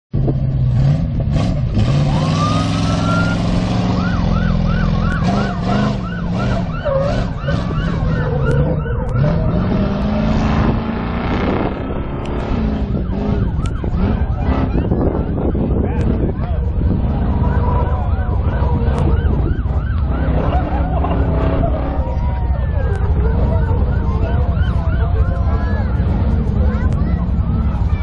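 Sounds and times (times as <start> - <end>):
truck engine revving: 0.2 - 28.0.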